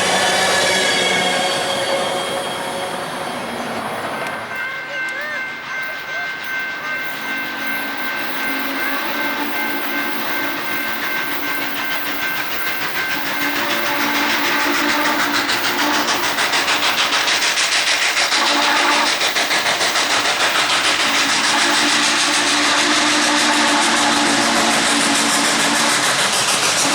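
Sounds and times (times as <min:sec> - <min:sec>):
train wheels clicking: 0:03.5 - 0:26.9.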